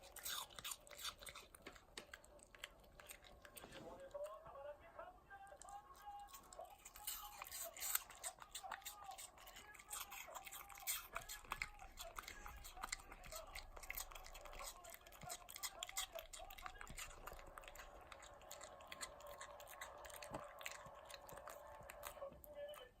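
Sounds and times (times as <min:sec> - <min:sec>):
dog chewing crunchy food: 0:00.0 - 0:04.3, 0:05.6 - 0:23.0.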